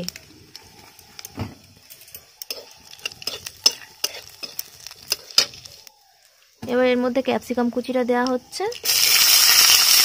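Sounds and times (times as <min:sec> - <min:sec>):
seeds sizzling in hot oil: 0:00.0 - 0:10.0.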